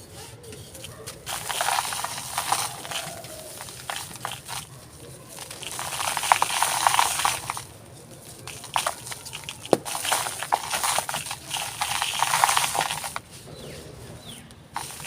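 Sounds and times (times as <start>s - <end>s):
dry material crumbled by hand: 0.7s - 13.4s, 14.8s - 15.0s.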